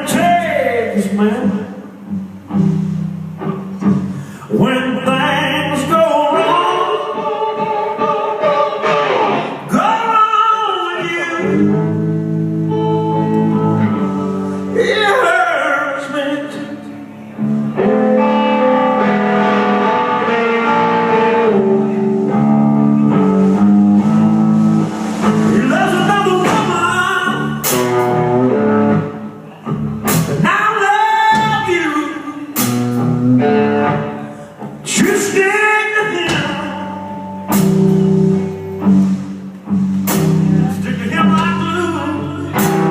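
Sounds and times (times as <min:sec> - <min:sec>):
man singing blues: 0:00.0 - 0:01.9, 0:03.8 - 0:24.3, 0:25.3 - 0:39.2, 0:40.2 - 0:42.9
guitar accompaniment: 0:00.0 - 0:42.9.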